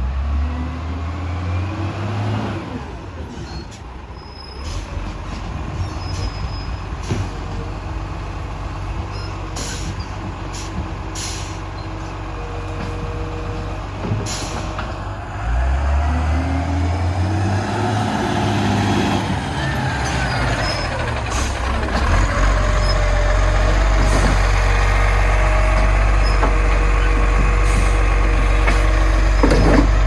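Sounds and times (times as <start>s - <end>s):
diesel garbage truck engine revving: 0.0s - 30.0s.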